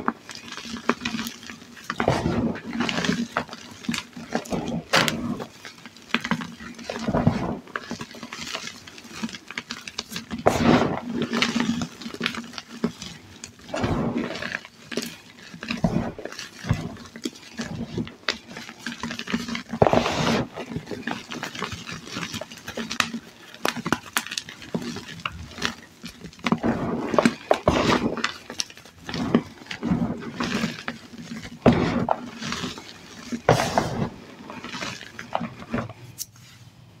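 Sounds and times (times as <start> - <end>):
hands crushing chalk: 0.0 - 36.4
chalk powder falling: 0.0 - 36.6.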